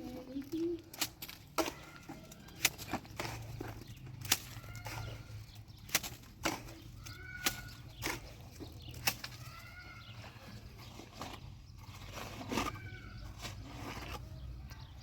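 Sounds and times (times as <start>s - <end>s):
chickens calling: 1.6s - 15.0s.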